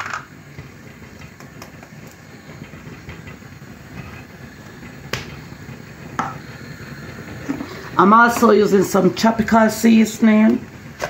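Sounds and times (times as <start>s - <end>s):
kitchen background rumble: 0.0s - 11.0s.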